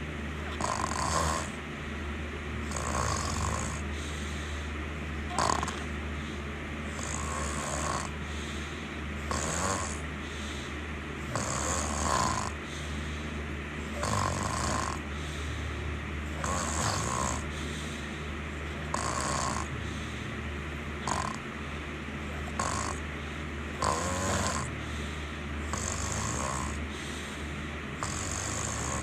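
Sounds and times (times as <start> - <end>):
constant low hum: 0.0 - 29.0
person snoring: 0.5 - 1.6, 2.6 - 4.7, 5.3 - 18.1, 18.7 - 20.4, 21.0 - 21.4, 22.3 - 29.0.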